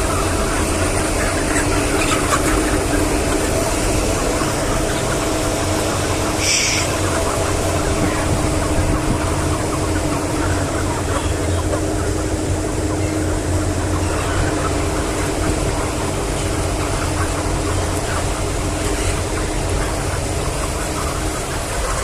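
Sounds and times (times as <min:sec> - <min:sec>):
chickens chirping: 0:00.0 - 0:22.0
machinery hum: 0:00.0 - 0:22.0.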